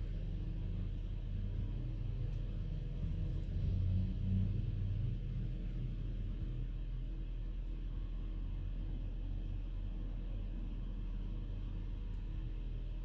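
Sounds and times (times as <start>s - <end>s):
low hum: 0.0s - 13.0s
low steady rumble: 0.0s - 13.0s.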